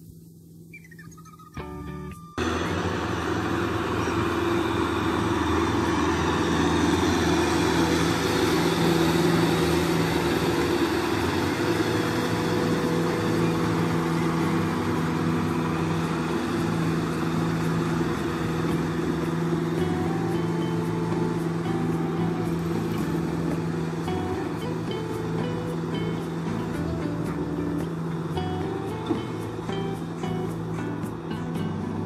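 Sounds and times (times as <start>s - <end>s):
tractor diesel engine under load: 2.3s - 32.0s.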